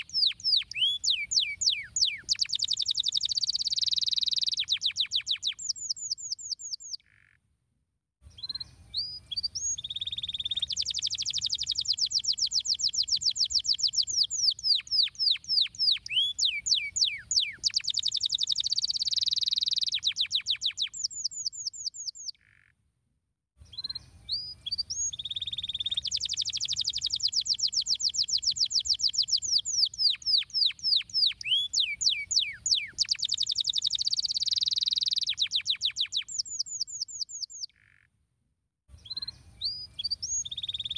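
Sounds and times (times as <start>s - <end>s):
canary singing trills: 0.0s - 7.4s, 8.3s - 22.7s, 23.7s - 38.0s, 39.0s - 40.9s.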